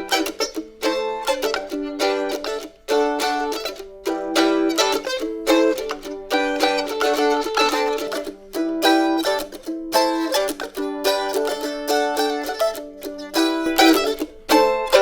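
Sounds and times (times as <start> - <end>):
mandolin picking melody: 0.0 - 15.0.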